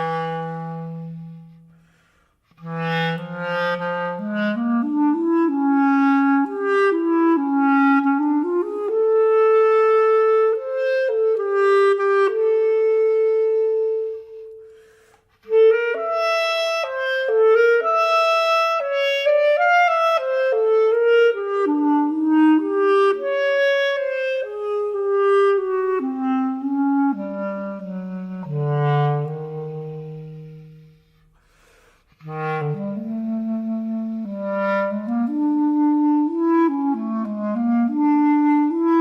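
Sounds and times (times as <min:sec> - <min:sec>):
solo woodwind melody: 0:00.0 - 0:39.0.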